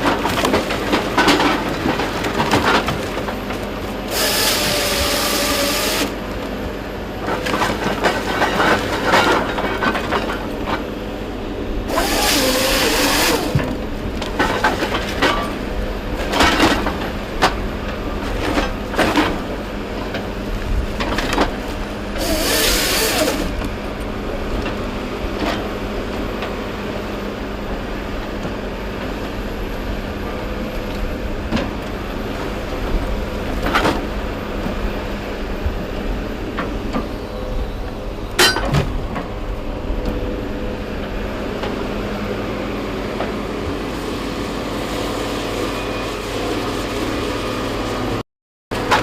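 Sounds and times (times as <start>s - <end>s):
heavy machine engine running: 0.0s - 49.0s.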